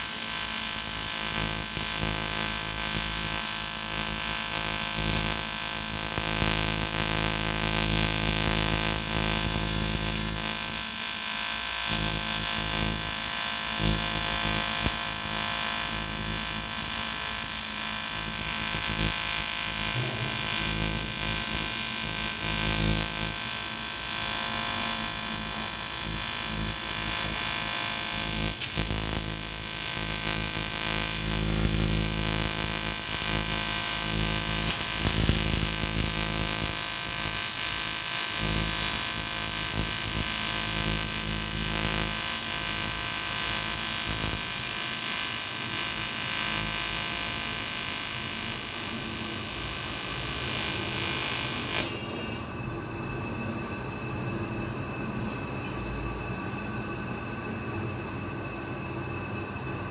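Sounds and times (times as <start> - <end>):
welding arc buzzing: 0.0 - 52.5.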